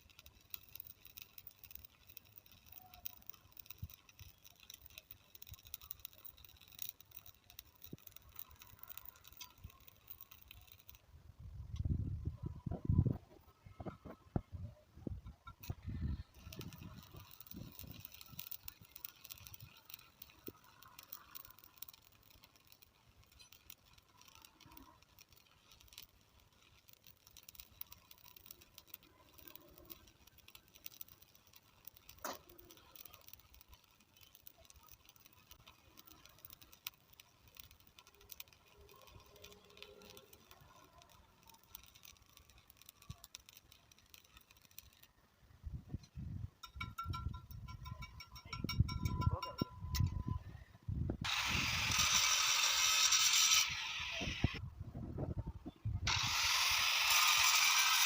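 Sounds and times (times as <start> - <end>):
faint scattered clicks: 0.0 - 11.1, 11.7 - 58.0.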